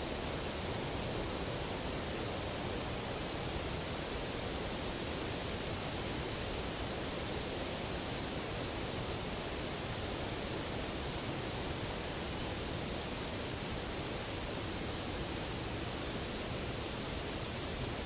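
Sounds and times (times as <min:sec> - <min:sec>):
steady static hiss: 0:00.0 - 0:18.0.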